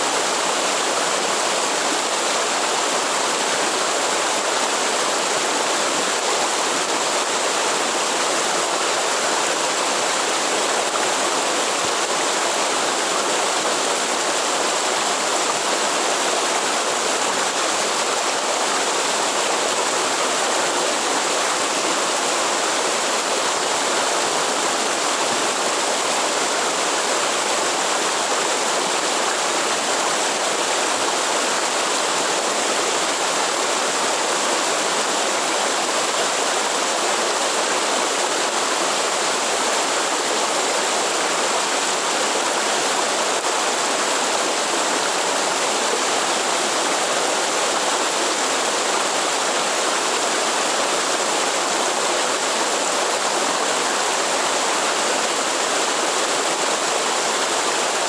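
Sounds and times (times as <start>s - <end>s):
waterfall: 0.0s - 58.0s.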